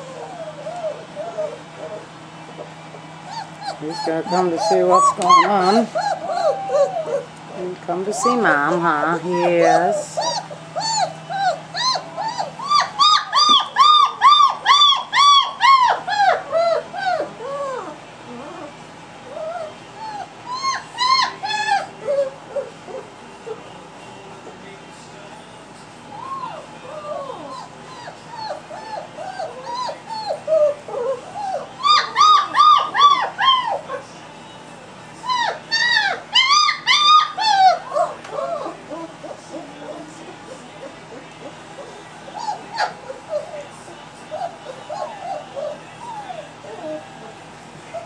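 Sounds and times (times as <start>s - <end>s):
puppy whimpering yelps: 0.0s - 2.1s, 3.3s - 7.4s, 8.2s - 23.6s, 26.1s - 34.1s, 35.2s - 43.7s, 44.3s - 47.1s.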